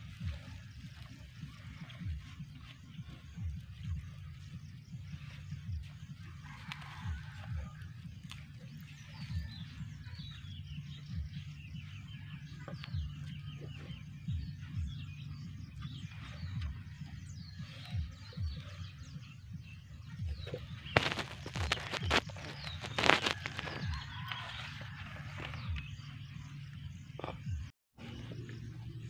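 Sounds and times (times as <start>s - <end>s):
soft low thumps: 0.0s - 24.2s
small birds chirping: 0.0s - 29.0s
steady low rumble: 0.0s - 29.0s.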